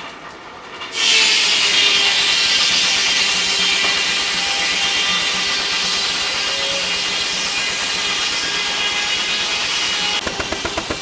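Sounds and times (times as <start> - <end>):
circular saw blade cutting log: 1.0 - 11.0.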